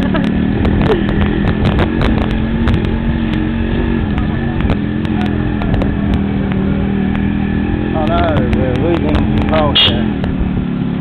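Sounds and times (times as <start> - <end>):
motorcycle engine running: 0.0 - 11.0
road noise rumble: 0.0 - 11.0.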